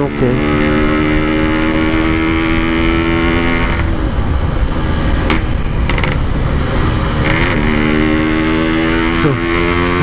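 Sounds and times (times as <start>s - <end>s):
motorcycle engine: 0.0s - 10.0s
wind and road noise: 0.0s - 10.0s.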